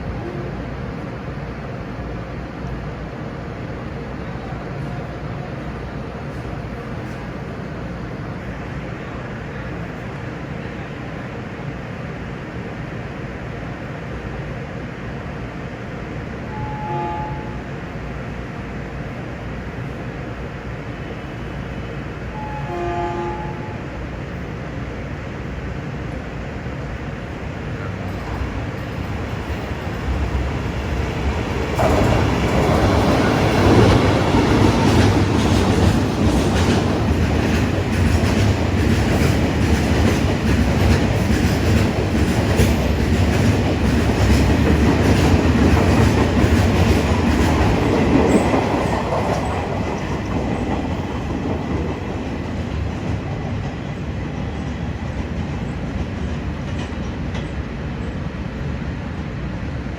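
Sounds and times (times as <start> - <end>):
freight train wagons rumbling: 0.0 - 59.9.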